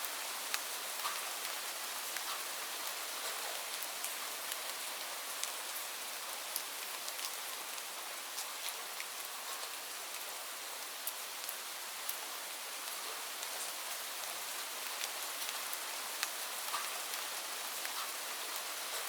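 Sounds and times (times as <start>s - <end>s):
raindrops dripping on a surface: 0.0s - 19.0s
steady rain hiss: 0.0s - 19.0s.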